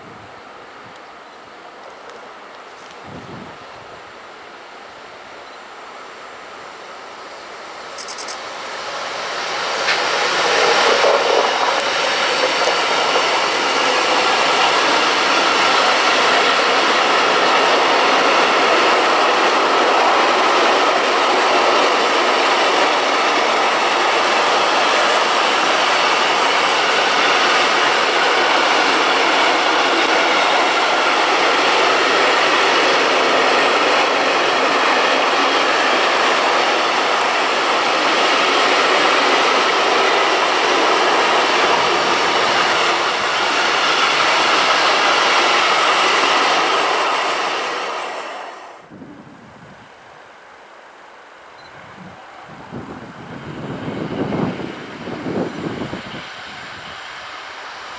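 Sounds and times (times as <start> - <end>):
freight train wheels on rails: 0.0 - 50.5, 51.3 - 57.9.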